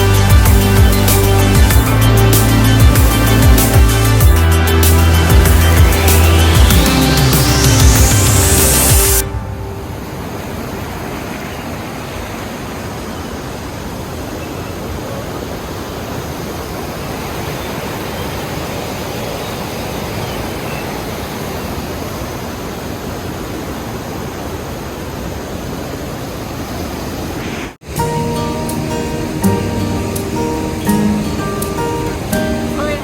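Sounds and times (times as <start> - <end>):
waterfall and stream rushing: 0.0 - 33.0.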